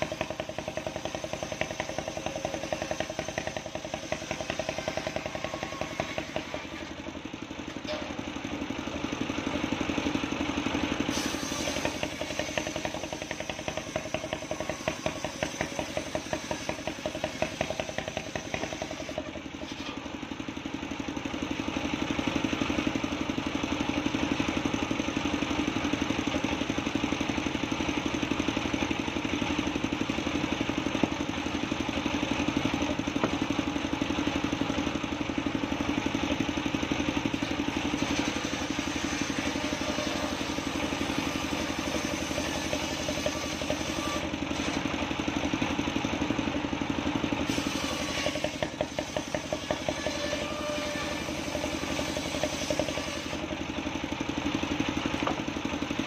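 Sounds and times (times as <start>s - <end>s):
circular saw cutting wood: 0.0s - 20.6s, 24.0s - 46.4s, 47.1s - 53.8s.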